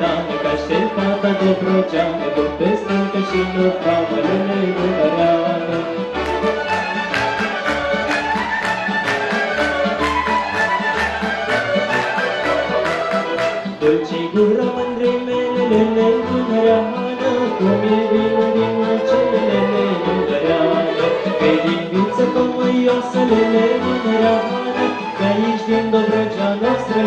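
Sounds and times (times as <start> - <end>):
folk orchestra with violins: 0.0 - 27.0.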